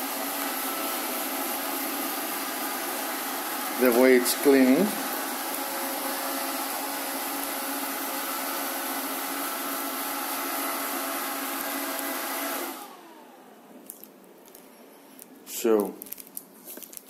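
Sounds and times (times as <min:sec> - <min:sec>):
robot vacuum whining: 0:00.0 - 0:14.0.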